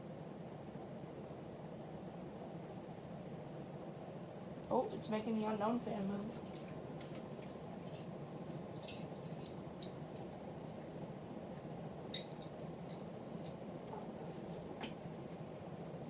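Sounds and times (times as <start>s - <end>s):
ceiling fan whooshing: 0.0s - 16.0s.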